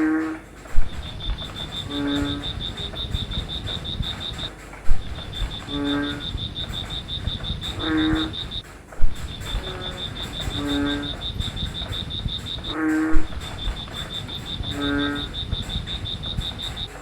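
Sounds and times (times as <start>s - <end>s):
cricket pulsing trill: 0.0s - 17.0s
frog calling: 0.0s - 17.0s.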